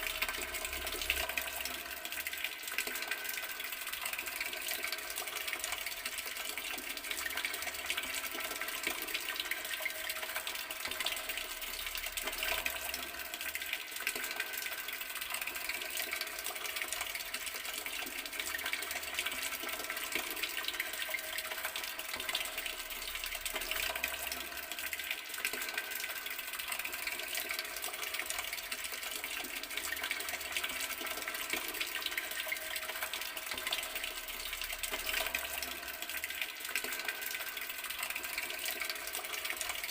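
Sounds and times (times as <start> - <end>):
water running from tap: 0.0 - 39.9.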